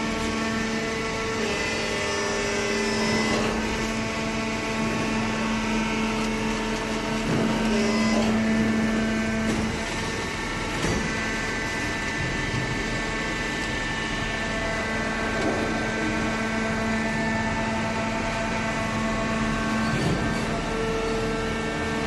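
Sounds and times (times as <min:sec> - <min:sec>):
hydraulic pump motor hum: 0:00.0 - 0:22.0.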